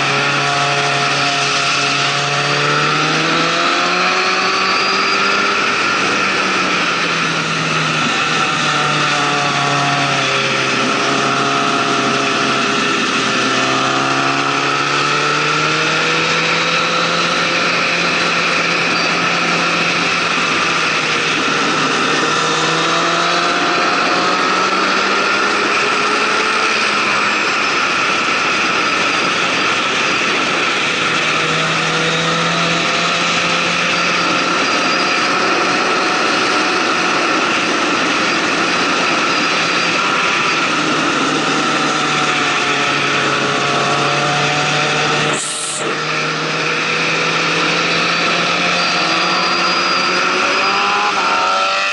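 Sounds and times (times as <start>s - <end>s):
motorcycle engine accelerating: 0.0s - 51.9s
wind and road noise: 0.0s - 51.9s.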